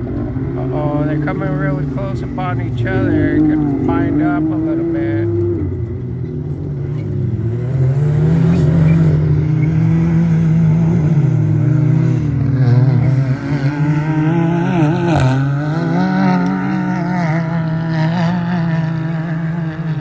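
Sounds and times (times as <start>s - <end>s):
racing engines revving: 0.0s - 20.0s.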